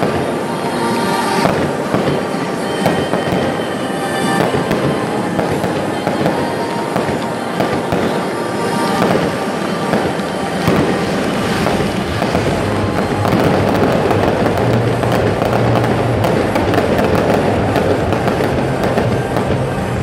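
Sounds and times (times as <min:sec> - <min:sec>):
fireworks crackling and cracking: 0:00.0 - 0:20.0
music playing: 0:00.0 - 0:20.0.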